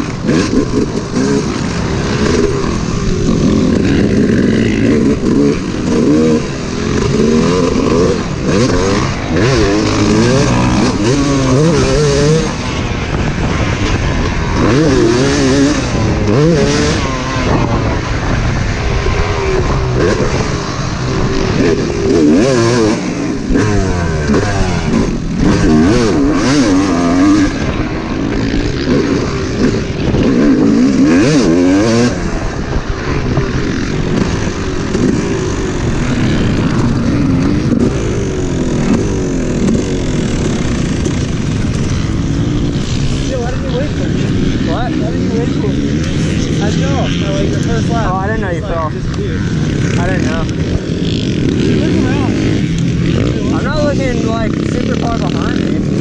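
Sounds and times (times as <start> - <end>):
motocross bike engine revving: 0.0 - 56.0
wind rushing over microphone: 0.0 - 56.0.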